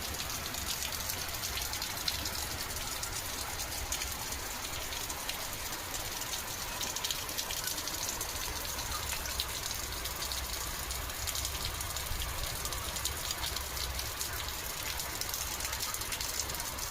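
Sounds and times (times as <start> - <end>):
heavy rainfall: 0.0 - 16.9.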